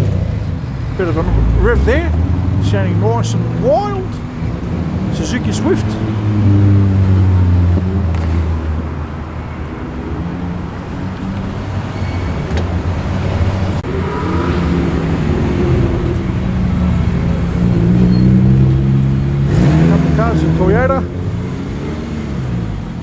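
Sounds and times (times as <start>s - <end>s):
car engines at low revs: 0.0s - 23.0s.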